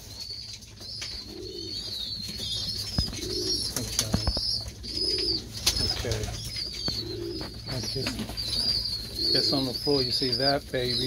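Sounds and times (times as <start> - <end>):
high chirping: 0.0 - 11.0
pigeons cooing: 0.0 - 11.0.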